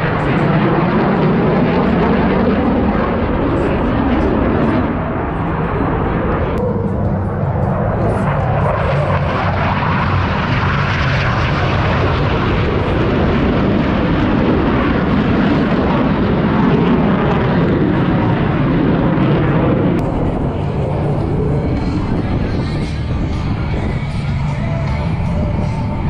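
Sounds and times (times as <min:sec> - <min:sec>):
jet engine roaring past: 0:00.0 - 0:26.0.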